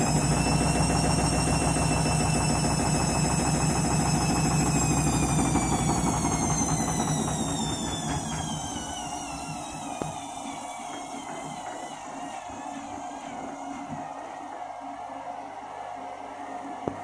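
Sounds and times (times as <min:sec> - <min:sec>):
washing machine spinning: 0:00.0 - 0:15.3.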